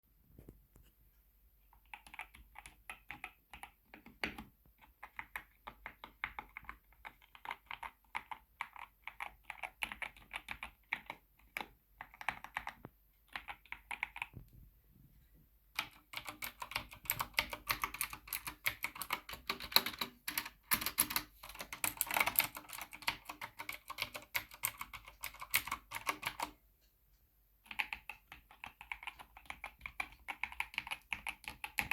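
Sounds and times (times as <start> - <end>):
fast mechanical keyboard typing: 1.8 - 14.4, 15.8 - 26.6, 27.6 - 31.9.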